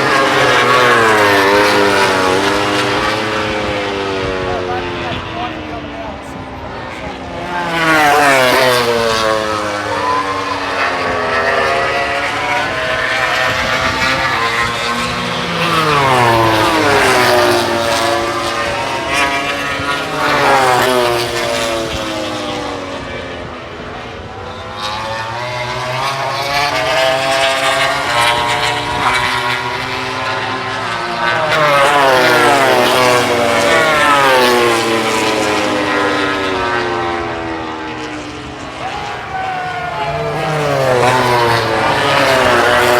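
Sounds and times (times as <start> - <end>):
racing motorcycles passing: 0.0 - 42.9.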